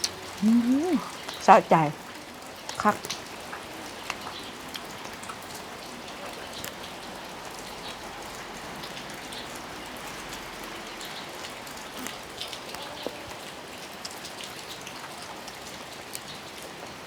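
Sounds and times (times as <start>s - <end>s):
drips pattering on surfaces: 0.0s - 17.0s.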